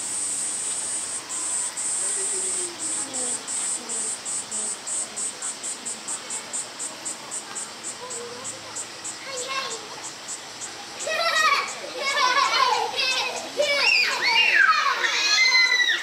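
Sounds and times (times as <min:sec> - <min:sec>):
cicada buzzing: 0:00.0 - 0:14.6.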